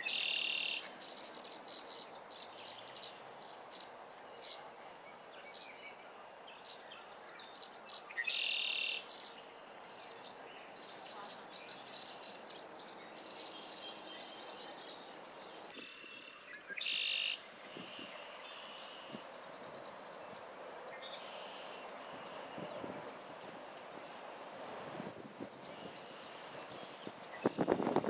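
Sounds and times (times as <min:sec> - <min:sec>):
small birds chirping: 0:00.0 - 0:24.0, 0:25.4 - 0:28.0.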